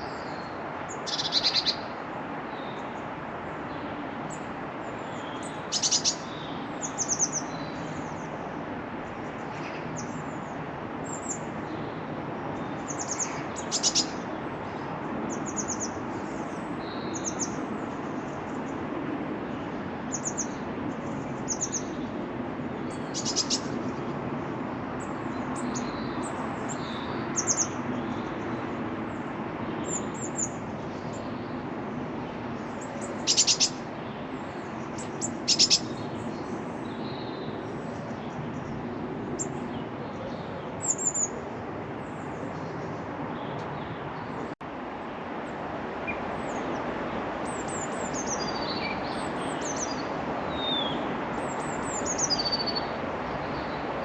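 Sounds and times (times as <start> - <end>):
birds chirping and trilling: 0.0 - 1.9, 3.7 - 8.3, 9.2 - 18.8, 19.4 - 24.1, 25.0 - 44.6, 46.0 - 54.0.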